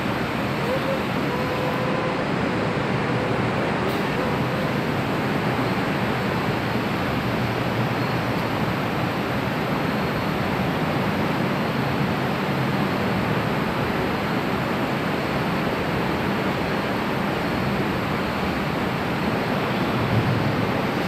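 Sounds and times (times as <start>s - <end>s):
metro platform rushing noise: 0.0s - 21.0s.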